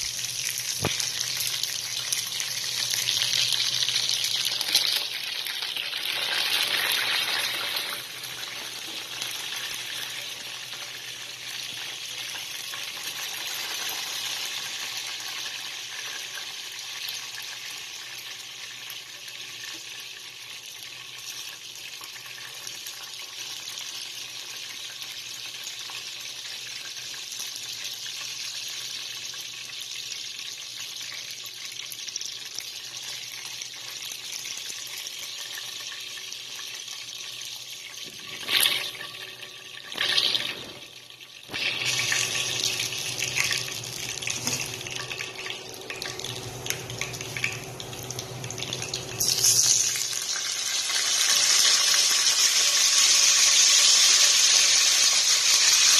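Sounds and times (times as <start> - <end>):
chicken sizzling in hot oil: 0.0 - 55.9.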